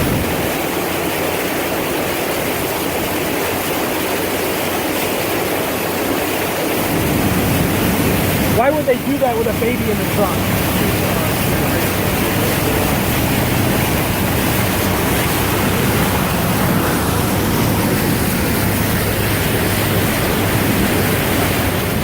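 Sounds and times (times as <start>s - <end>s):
floodwater rushing against vehicle: 0.0s - 22.0s
low engine hum: 0.0s - 22.0s.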